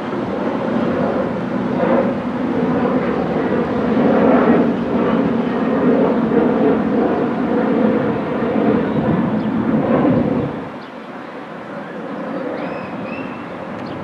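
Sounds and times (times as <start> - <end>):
diesel locomotive drone: 0.0 - 14.0.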